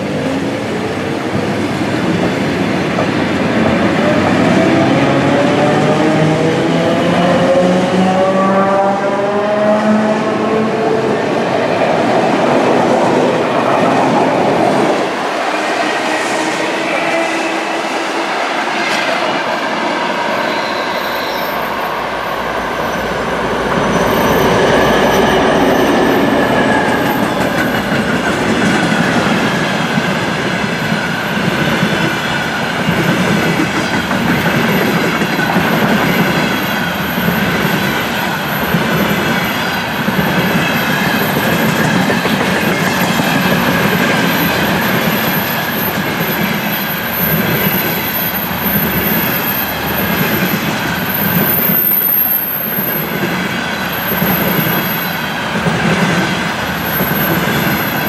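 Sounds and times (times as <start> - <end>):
diesel locomotive passing: 0.0 - 58.0
electric train running past: 0.0 - 58.0.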